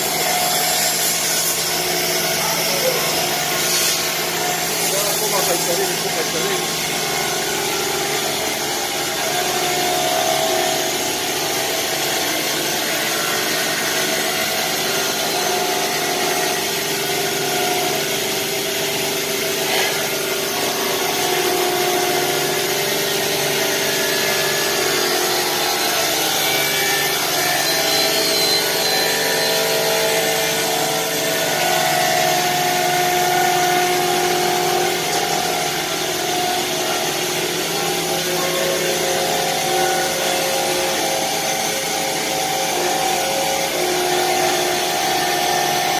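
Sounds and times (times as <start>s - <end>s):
power cutting tool whining: 0.0s - 45.9s.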